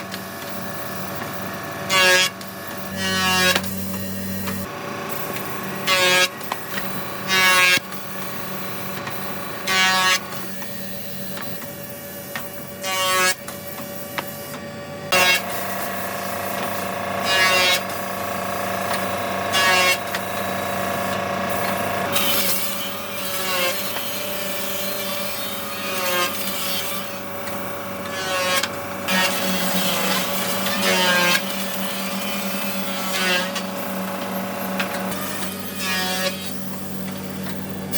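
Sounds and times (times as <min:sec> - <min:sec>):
blade whining cutting wood: 0:00.0 - 0:37.9
woodworking machinery humming: 0:00.0 - 0:37.9.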